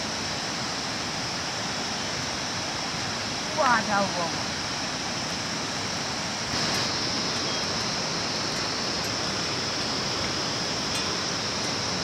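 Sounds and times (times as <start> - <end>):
high-pitched hiss: 0.0 - 12.0
steady rushing noise: 0.0 - 12.0.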